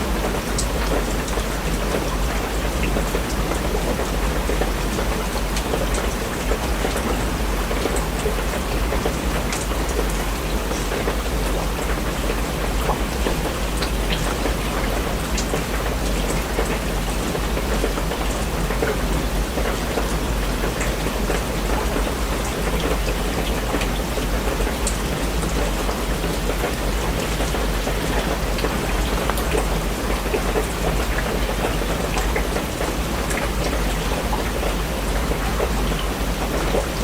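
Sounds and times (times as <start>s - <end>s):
rain drops ticking: 0.0s - 37.0s
steady rain hissing: 0.0s - 37.0s.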